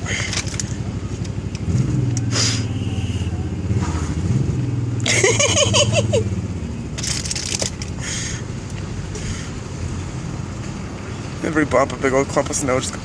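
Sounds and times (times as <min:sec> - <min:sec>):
low vehicle engine drone: 0:00.0 - 0:13.0.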